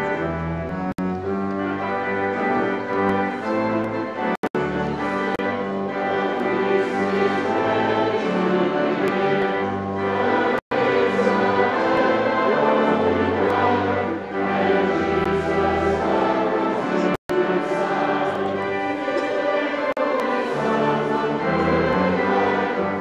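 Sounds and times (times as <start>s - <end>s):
church organ chords: 0.0s - 23.0s.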